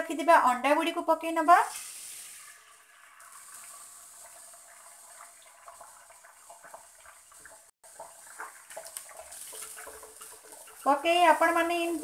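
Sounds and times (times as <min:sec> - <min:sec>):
eggs sizzling in a frying pan: 0:00.1 - 0:12.0.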